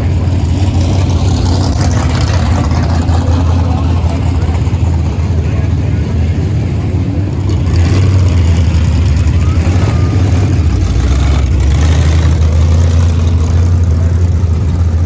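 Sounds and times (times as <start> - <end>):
race car engine droning: 0.0 - 15.0.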